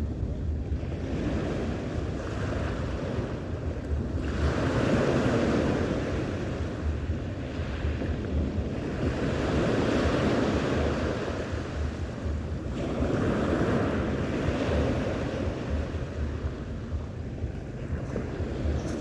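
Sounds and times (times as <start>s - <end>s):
sea waves washing in: 0.0s - 19.0s
wind buffeting microphone: 0.0s - 19.0s.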